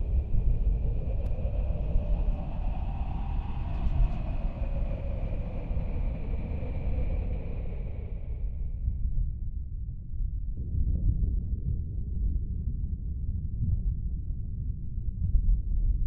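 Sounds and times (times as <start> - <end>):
deep steady rumble: 0.0 - 16.0.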